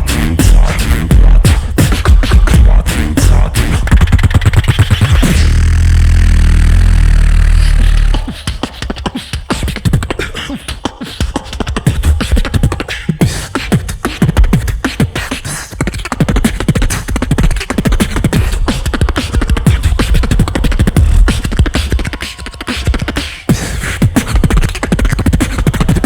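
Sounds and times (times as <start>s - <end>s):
beatboxing: 0.0s - 26.0s.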